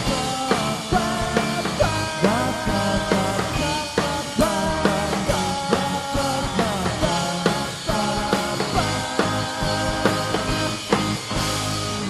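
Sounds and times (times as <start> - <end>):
drum kit steady beat: 0.0 - 12.0
electric guitars: 0.0 - 12.0
rock band playing live: 0.0 - 12.0.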